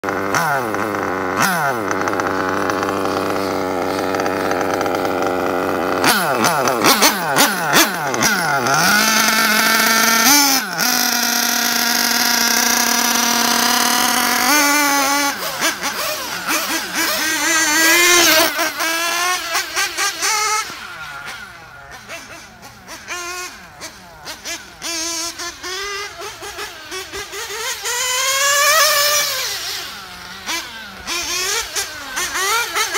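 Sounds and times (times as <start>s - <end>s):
model car engine revving: 0.0s - 32.9s.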